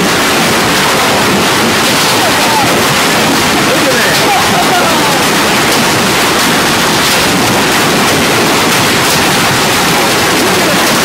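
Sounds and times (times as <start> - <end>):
hail hitting roofs and ground: 0.0 - 11.0.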